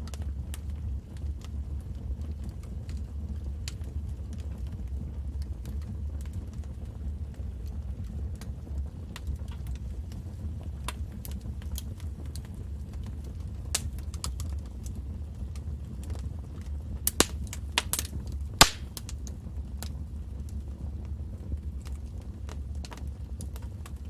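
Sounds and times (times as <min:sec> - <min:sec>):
low rumble of flames: 0:00.0 - 0:24.0
wood fire popping and snapping: 0:00.0 - 0:24.0.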